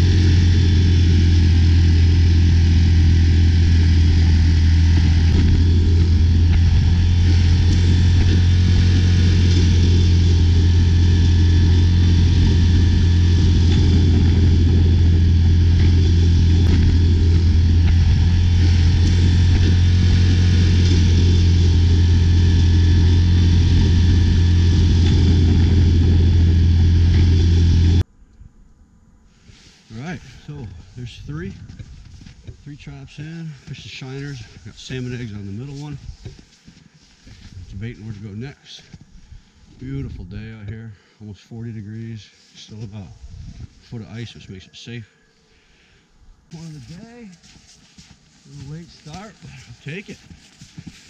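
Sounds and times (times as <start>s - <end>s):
atv engine running: 0.0s - 28.1s, 29.9s - 40.2s, 46.5s - 51.0s.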